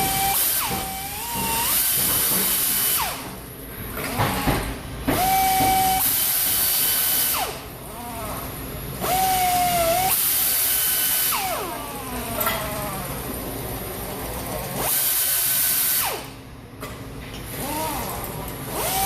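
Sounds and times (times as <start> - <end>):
power tool whining: 0.0 - 3.4, 4.0 - 13.2, 14.7 - 16.4, 17.6 - 19.0.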